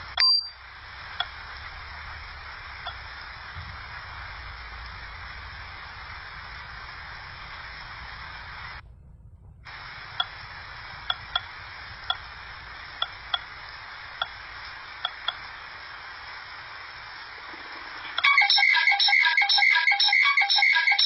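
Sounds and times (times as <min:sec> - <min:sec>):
low hum: 0:00.0 - 0:18.2
steady hiss: 0:00.0 - 0:19.6.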